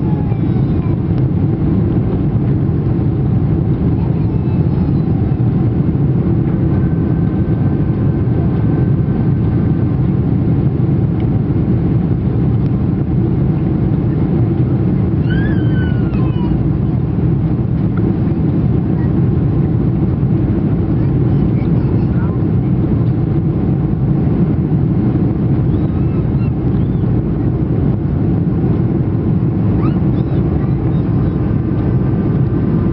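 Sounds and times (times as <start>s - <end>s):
jet engines rumbling in cabin: 0.0s - 32.9s
rushing airflow: 0.0s - 32.9s.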